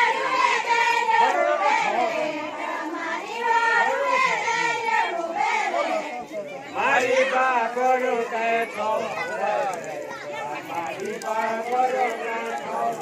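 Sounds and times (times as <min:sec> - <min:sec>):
women singing together: 0:00.0 - 0:13.0.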